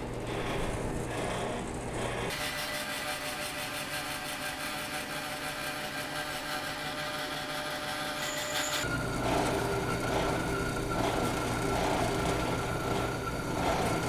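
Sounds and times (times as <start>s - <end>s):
band saw cutting: 0.0s - 14.0s.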